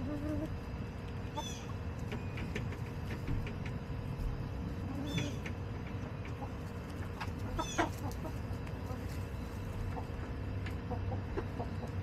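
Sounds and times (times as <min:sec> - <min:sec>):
hens clucking: 0:00.0 - 0:12.0
low background hum: 0:00.0 - 0:12.0.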